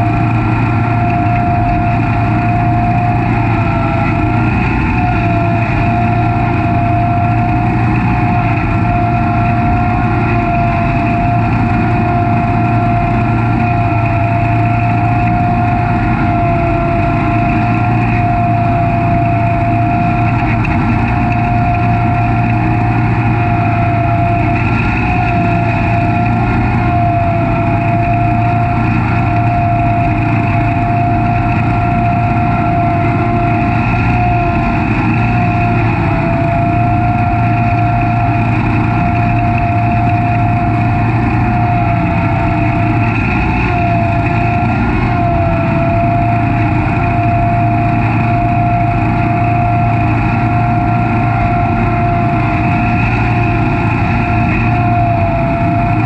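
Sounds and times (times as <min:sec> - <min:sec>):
lawn mower engine whining: 0:00.0 - 0:56.0.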